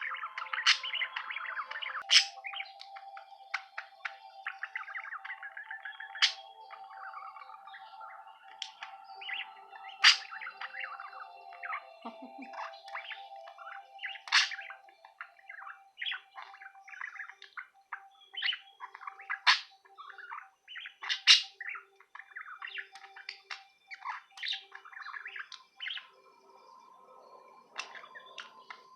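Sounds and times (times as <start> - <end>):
budgerigar warbling and chattering: 0.0 - 7.8, 8.5 - 26.1, 27.8 - 28.9.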